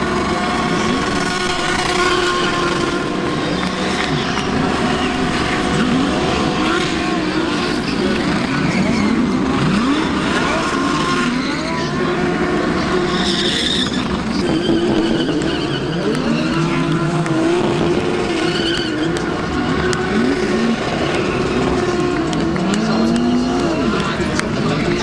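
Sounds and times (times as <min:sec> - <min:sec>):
race car engines revving: 0:00.0 - 0:25.0
tyres skidding and squealing: 0:00.0 - 0:25.0.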